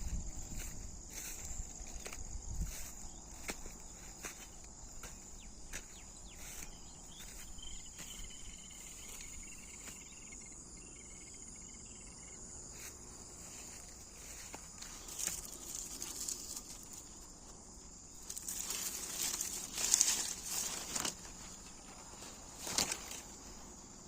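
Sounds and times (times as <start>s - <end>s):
high-pitched insect chorus: 0.0s - 24.0s
lower insect trill: 0.0s - 24.0s.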